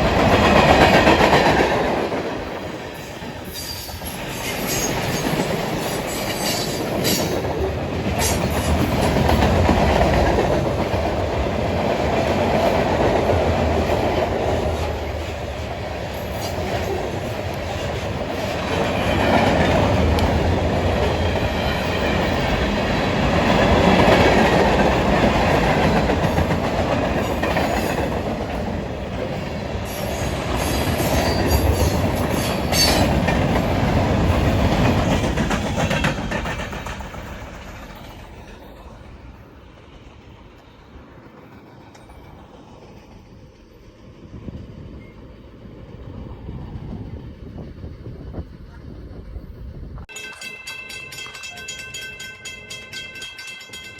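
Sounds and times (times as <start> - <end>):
train wheels clattering over rails: 0.0 - 49.3.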